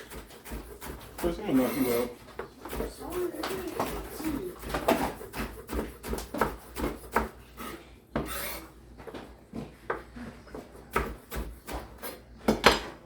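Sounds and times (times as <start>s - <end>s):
knife chopping on cutting board: 0.0s - 8.7s, 9.9s - 12.9s.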